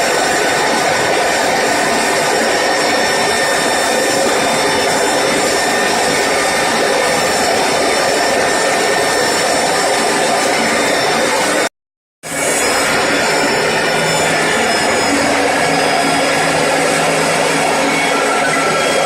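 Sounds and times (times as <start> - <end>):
core drill whining into concrete: 0.0 - 11.7, 12.3 - 19.0.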